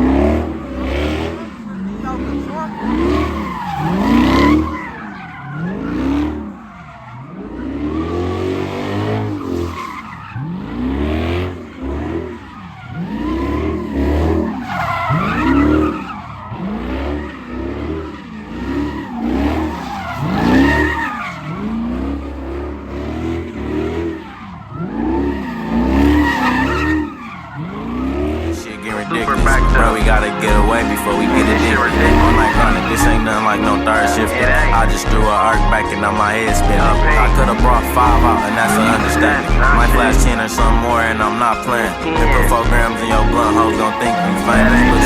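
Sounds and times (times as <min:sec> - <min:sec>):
car engine revving: 0:00.0 - 0:45.0
tyres squealing and skidding: 0:00.0 - 0:45.0.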